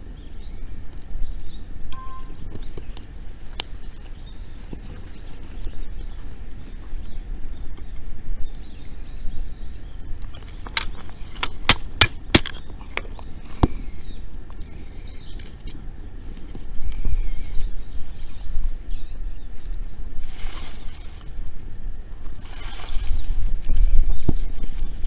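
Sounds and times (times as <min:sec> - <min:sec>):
burning wood popping: 0:00.0 - 0:25.0
wood fire crackling: 0:00.0 - 0:25.0.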